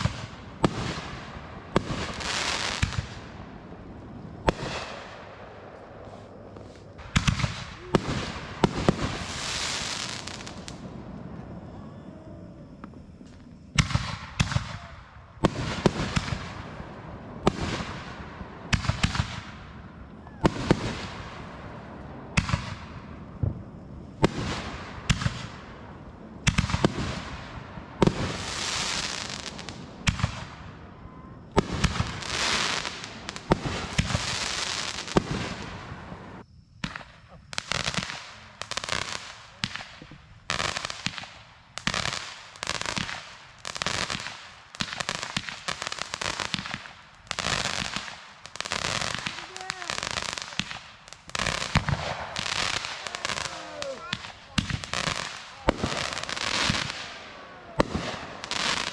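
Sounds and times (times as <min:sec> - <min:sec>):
fireworks bangs: 0:00.0 - 0:58.9
fireworks hissing crackle: 0:00.0 - 0:58.9.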